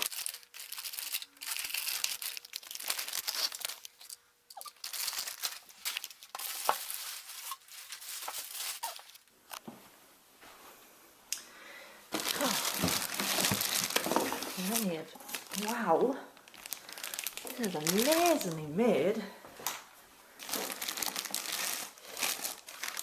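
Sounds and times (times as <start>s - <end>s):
plastic packaging crinkling: 0.0s - 9.3s, 12.1s - 18.8s, 20.4s - 23.0s.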